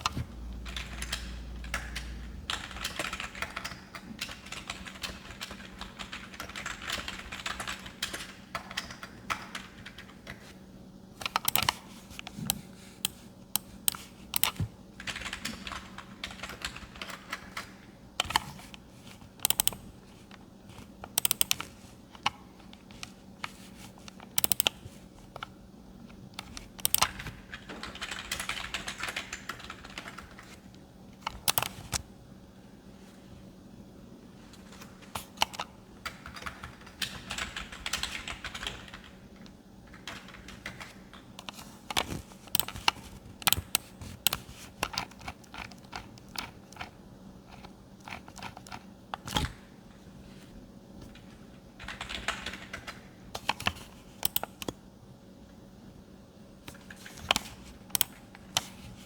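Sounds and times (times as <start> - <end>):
typing on computer keyboard: 0.0 - 10.4, 11.2 - 19.9, 20.8 - 25.6, 26.4 - 30.6, 31.2 - 32.0, 34.6 - 49.6, 51.2 - 54.8, 56.7 - 58.8
faint steady hum: 0.0 - 59.0.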